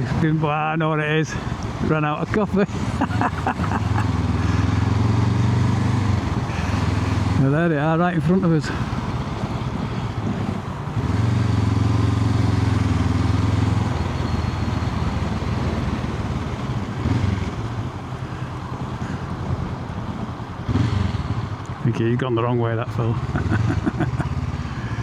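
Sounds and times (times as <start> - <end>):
wind and road noise: 0.0 - 25.0
motorcycle engine running: 1.1 - 25.0.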